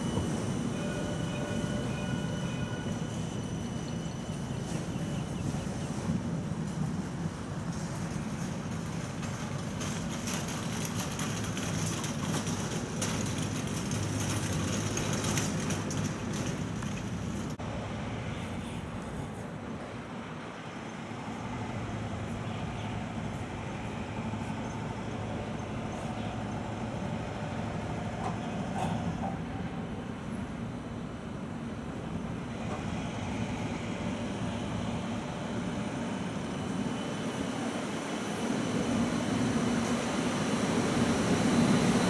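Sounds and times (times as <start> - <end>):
tram running hum: 0.0 - 42.0.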